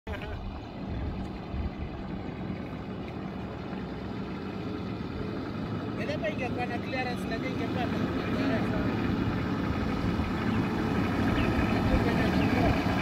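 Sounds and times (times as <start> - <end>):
suv engine running at low revs: 0.1 - 13.0.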